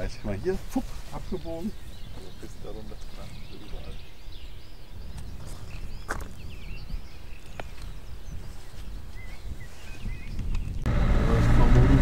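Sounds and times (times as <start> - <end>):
low wind rumble: 0.0 - 12.0
songbirds chirping: 0.0 - 12.0.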